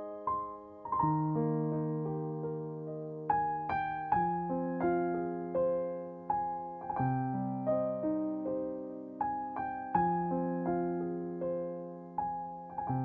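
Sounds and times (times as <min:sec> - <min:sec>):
gentle piano notes and chords: 0:00.0 - 0:13.0.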